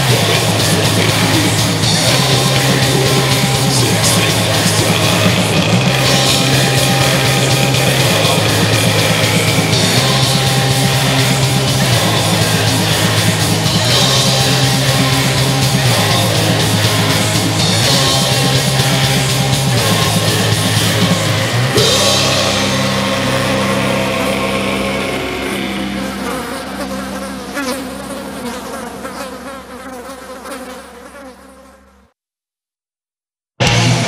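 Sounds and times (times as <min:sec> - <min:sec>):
distorted extreme metal music: 0:00.0 - 0:28.4, 0:33.6 - 0:34.0
steady low drone: 0:00.0 - 0:29.1.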